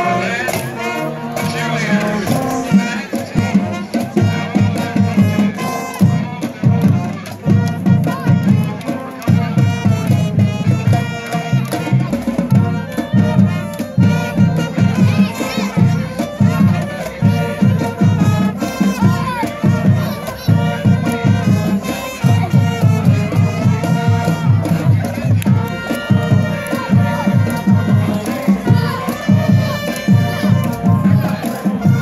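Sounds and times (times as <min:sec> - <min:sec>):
crowd noise: 0:00.0 - 0:32.0
marching band playing: 0:00.0 - 0:32.0.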